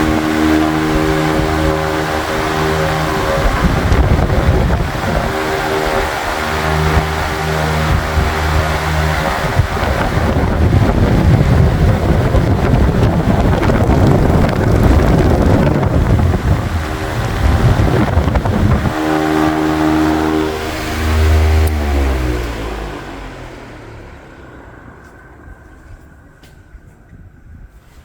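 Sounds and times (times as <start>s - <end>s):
wind noise on microphone: 0.0s - 23.4s, 25.4s - 28.0s
fan motor hum: 0.0s - 27.8s.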